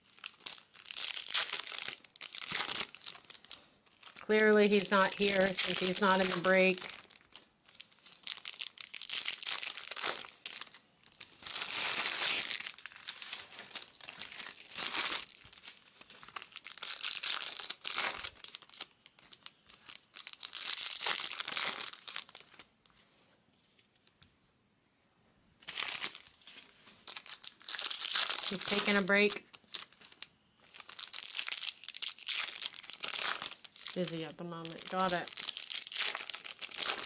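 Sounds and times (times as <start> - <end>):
foil wrappers crinkling and tearing: 0.0 - 22.7, 25.6 - 37.0.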